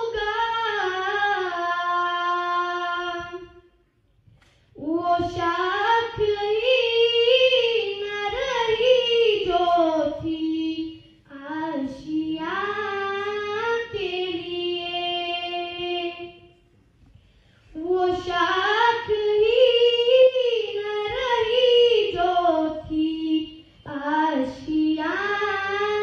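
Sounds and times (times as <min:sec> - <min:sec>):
girl singing into microphone: 0:00.0 - 0:03.9, 0:04.6 - 0:16.7, 0:17.6 - 0:26.0.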